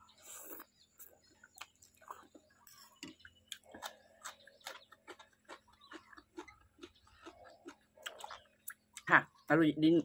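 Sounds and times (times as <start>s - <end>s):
chewing noodles: 0.1s - 9.1s.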